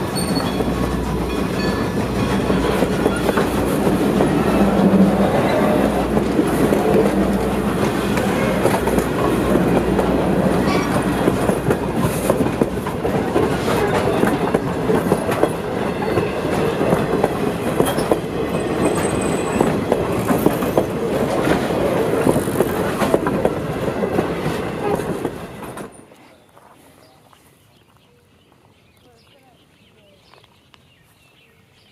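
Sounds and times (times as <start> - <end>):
train wheels clacking: 0.0 - 26.1.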